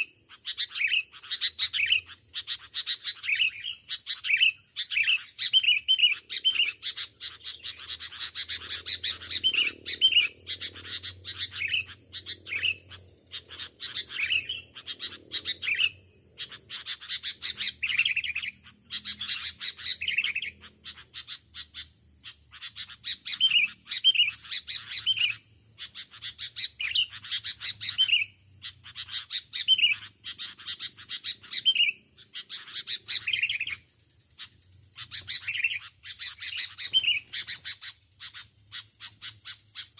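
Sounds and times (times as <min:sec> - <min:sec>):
birds whistling and chattering: 0:00.0 - 0:39.9.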